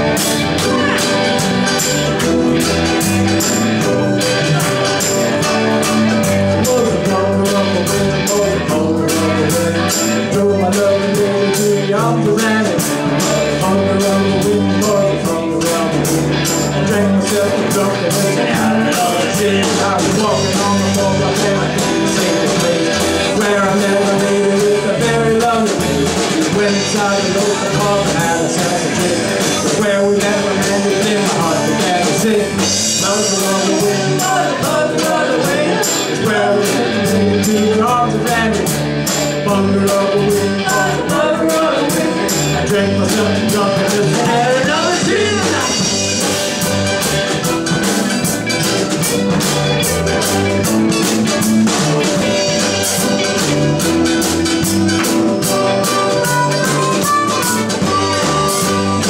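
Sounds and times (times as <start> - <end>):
drum kit beat: 0.0 - 59.0
electric and acoustic guitars: 0.0 - 59.0.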